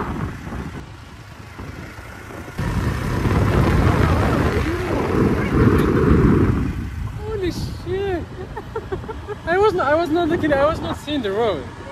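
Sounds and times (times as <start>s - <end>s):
motor scooter riding: 0.0s - 11.9s
wind buffeting microphone: 0.0s - 11.9s.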